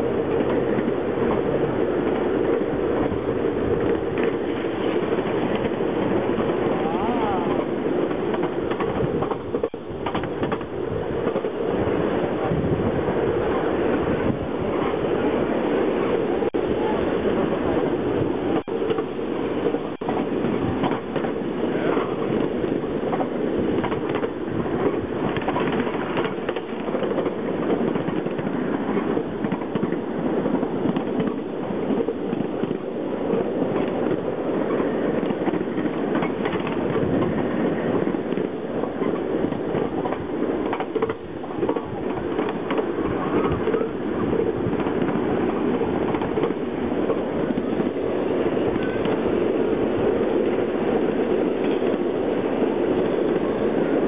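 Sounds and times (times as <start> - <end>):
train rumbling on rails: 0.0 - 54.0
wheels clicking over track: 0.2 - 12.6, 18.5 - 50.6.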